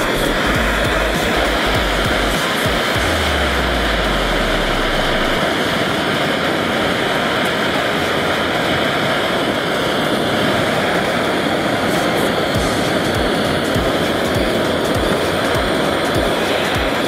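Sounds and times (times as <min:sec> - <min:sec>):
gas torch flame roaring: 0:00.0 - 0:17.0.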